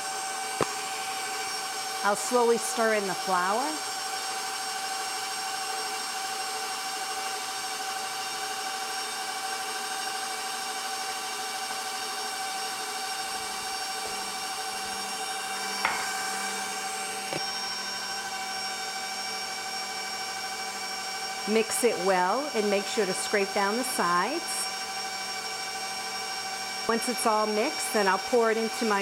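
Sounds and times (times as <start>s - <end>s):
stand mixer motor whining: 0.0s - 29.0s.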